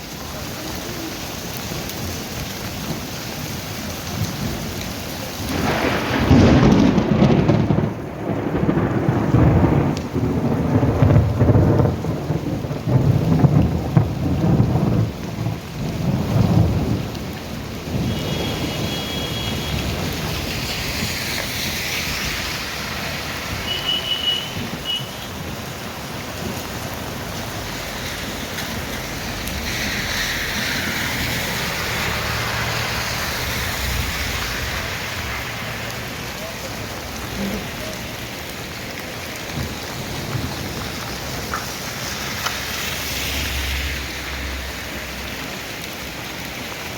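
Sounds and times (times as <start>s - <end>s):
steady rain hiss: 0.0s - 46.9s
thunder rumbling: 2.7s - 46.7s.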